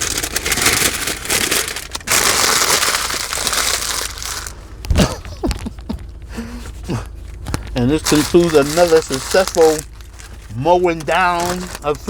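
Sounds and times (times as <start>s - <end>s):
food wrapper crinkling: 0.0s - 6.1s, 6.7s - 12.0s.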